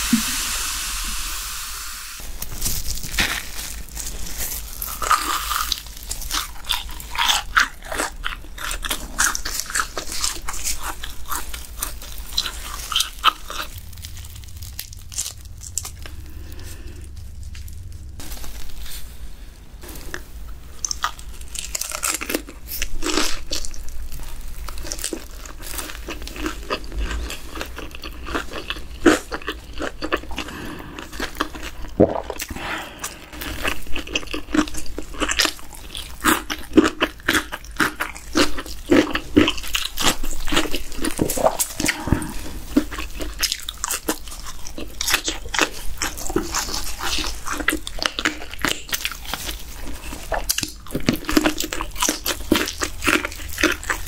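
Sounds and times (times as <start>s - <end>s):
crunchy chewing of fried food: 2.2s - 54.0s.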